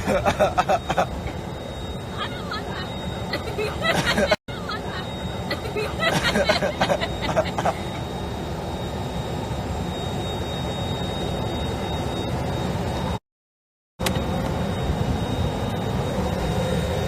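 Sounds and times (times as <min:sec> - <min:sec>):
faint high whine: 0:00.0 - 0:13.2, 0:14.0 - 0:17.0
jet cabin engine noise: 0:00.0 - 0:13.2, 0:14.0 - 0:17.0.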